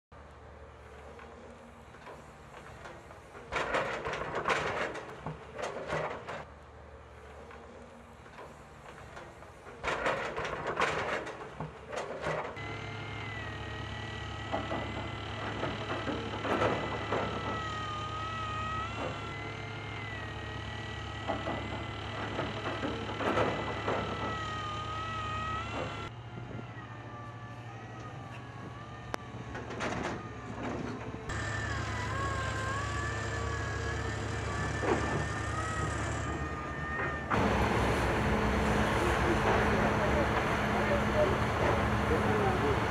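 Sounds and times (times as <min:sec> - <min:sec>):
heavy construction machinery: 0:00.2 - 0:42.9.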